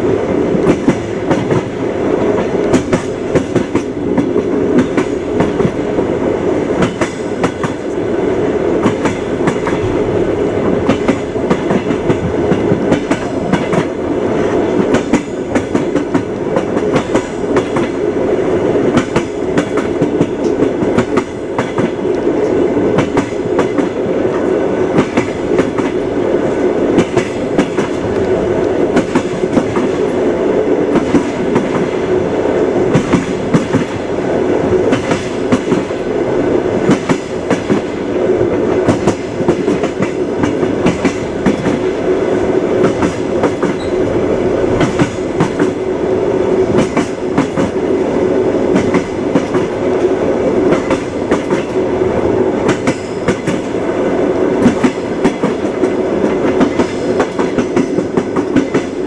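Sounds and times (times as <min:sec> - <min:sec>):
train rumbling: 0:00.0 - 0:59.0
train wheels clattering: 0:00.5 - 0:08.1, 0:08.8 - 0:18.0, 0:18.6 - 0:30.2, 0:32.9 - 0:36.1, 0:36.7 - 0:45.9, 0:46.7 - 0:51.9, 0:52.6 - 0:53.8, 0:54.6 - 0:59.0.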